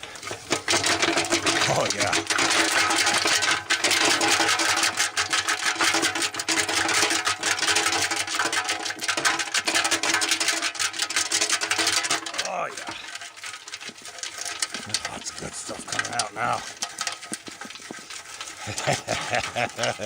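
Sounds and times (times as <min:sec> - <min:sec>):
rust rattling inside metal tank: 0:00.0 - 0:20.0.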